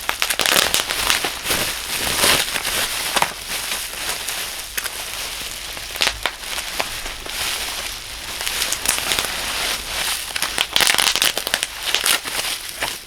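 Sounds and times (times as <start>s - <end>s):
bubble wrap crinkling: 0.0s - 13.0s
bubble wrap popping: 0.0s - 13.0s.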